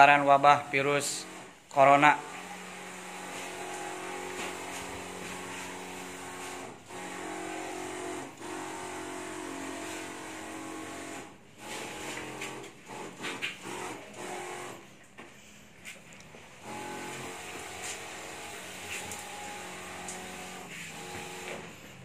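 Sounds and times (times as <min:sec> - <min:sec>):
sprayer motor hum: 0:00.2 - 0:15.0, 0:16.3 - 0:22.0.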